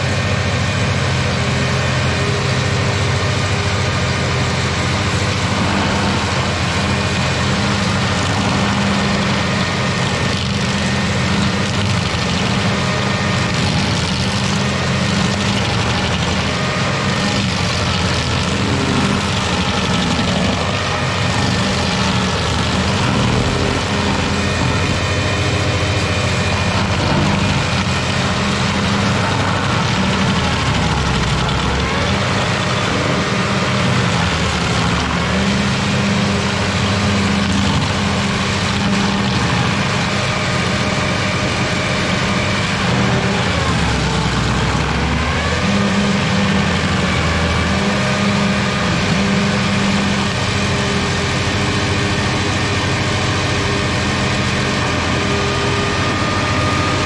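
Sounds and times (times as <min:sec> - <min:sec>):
stump grinder grinding stump: 0:00.0 - 0:57.0.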